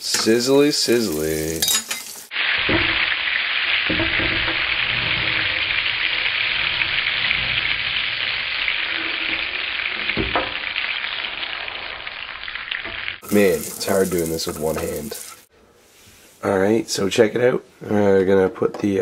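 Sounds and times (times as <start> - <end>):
butter sizzling in a pan: 0.0 - 15.5.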